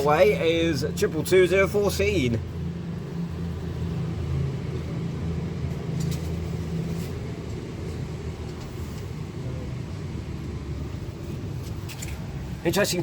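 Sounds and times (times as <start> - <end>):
train diesel engines droning: 0.0 - 13.0.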